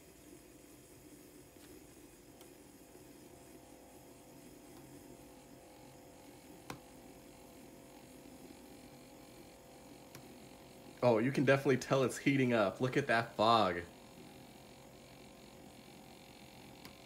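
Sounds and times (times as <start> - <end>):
electric milk frother humming: 0.0 - 17.0.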